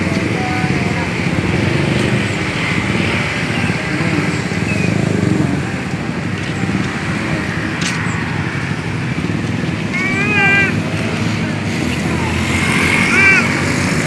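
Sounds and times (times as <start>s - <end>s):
motorcycles and cars passing: 0.0s - 14.0s.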